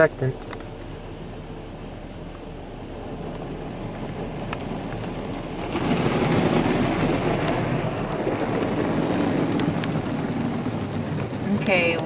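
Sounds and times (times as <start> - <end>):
car wash spray drumming on car: 0.0 - 12.0.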